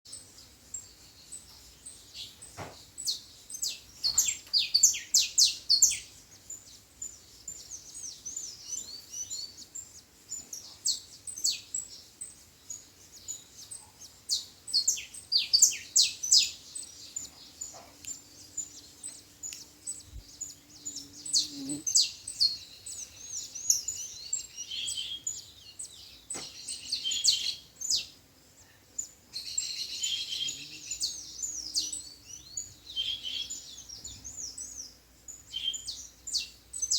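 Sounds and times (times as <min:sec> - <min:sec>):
small songbirds chirping and trilling: 0:00.0 - 0:36.9.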